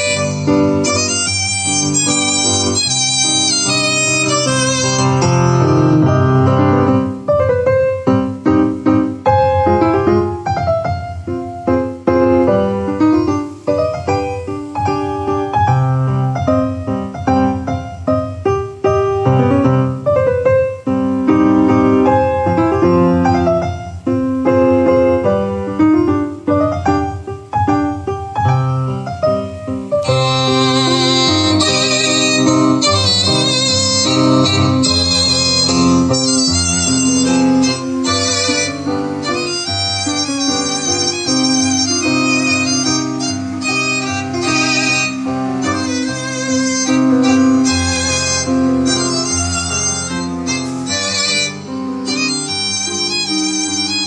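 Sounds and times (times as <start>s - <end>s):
piano music through loudspeaker: 0.0s - 54.0s.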